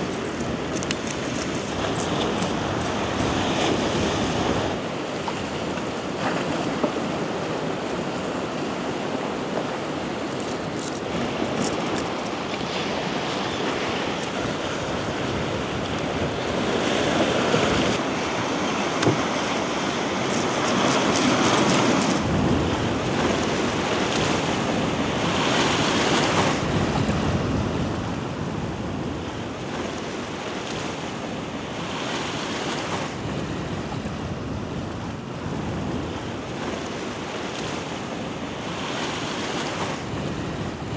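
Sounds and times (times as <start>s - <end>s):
sea waves washing onto shore: 0.0s - 40.9s
wind on microphone: 0.0s - 40.9s.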